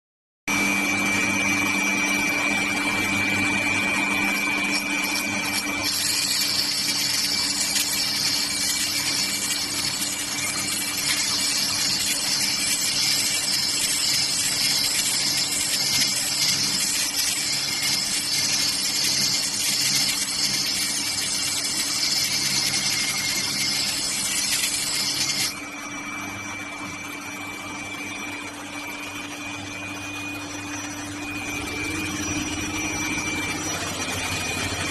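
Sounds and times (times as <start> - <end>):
grinding machine motor hum: 0.5 - 34.9.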